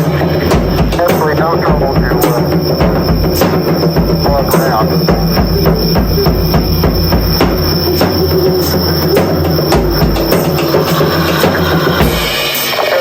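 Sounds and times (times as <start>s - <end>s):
sustained low backing: 0.0s - 12.4s
drum strikes: 0.0s - 13.0s.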